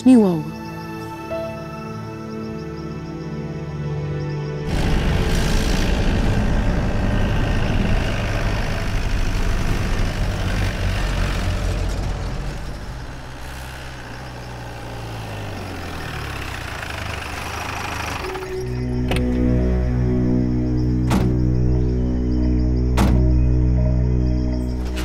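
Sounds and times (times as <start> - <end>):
low vehicle engine rumble: 4.6 - 25.0.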